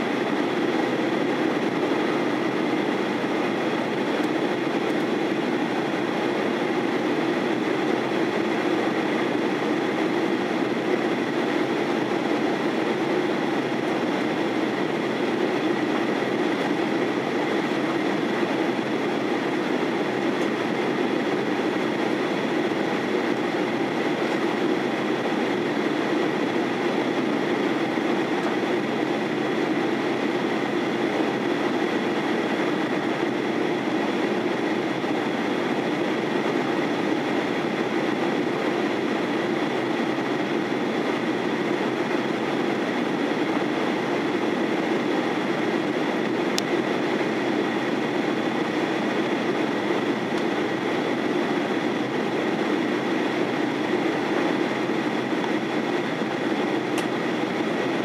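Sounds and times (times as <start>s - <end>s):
jet engine cabin hum: 0.0s - 58.0s
rushing airflow: 0.0s - 58.0s.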